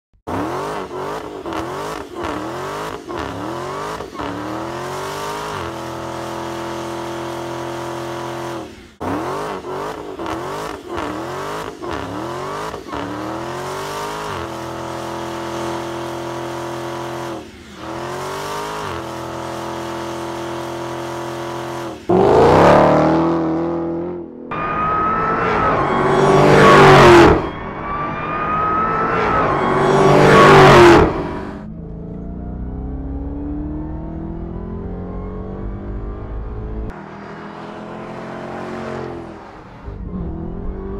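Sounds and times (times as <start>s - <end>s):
car engine revving: 0.3s - 40.9s.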